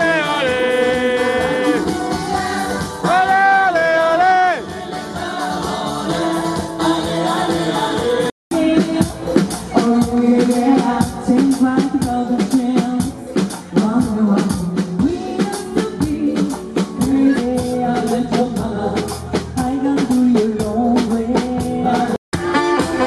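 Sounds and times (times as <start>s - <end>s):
drum-kit beat: 0.0s - 23.0s
live dance band playing: 0.0s - 23.0s.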